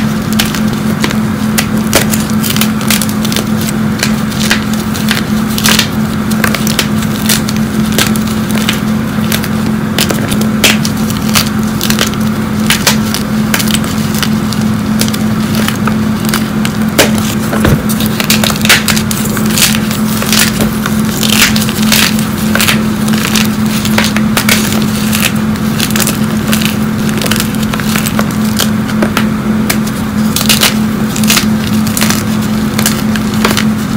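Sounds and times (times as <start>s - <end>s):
chalk blocks cracking and crunching: 0.0s - 33.9s
steady low hum: 0.0s - 33.9s.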